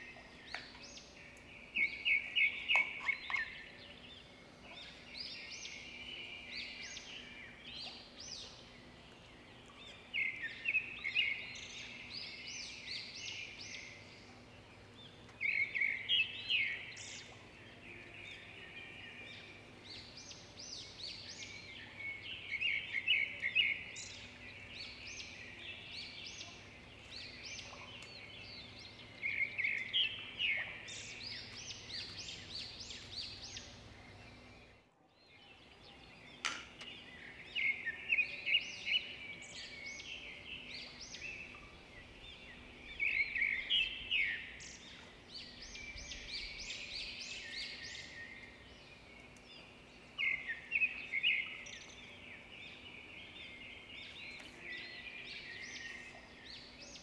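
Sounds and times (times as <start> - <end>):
birds chirping: 0.0 - 57.0
faint steady hum: 0.0 - 57.0.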